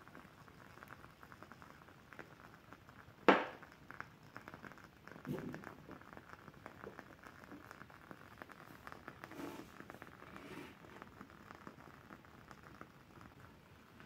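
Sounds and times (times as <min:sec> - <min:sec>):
candle wick crackling: 0:00.1 - 0:14.0.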